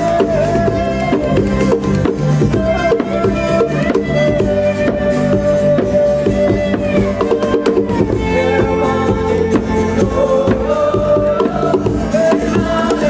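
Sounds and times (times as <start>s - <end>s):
drums and percussion: 0.0s - 13.0s.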